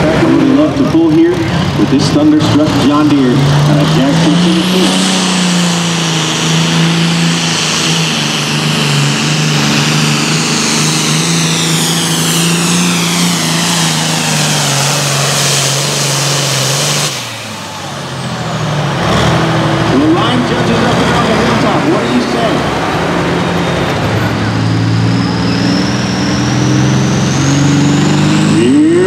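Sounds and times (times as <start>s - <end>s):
high turbo whine: 0.0s - 29.0s
tractor diesel engine under load: 0.0s - 29.0s.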